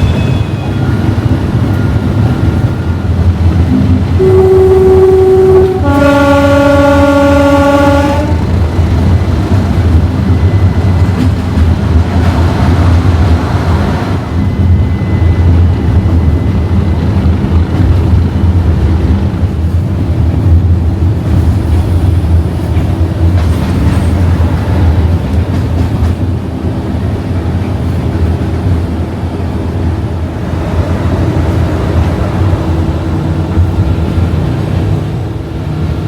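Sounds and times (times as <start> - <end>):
diesel locomotive engine rumbling: 0.0 - 36.0
train running noise: 0.0 - 36.0.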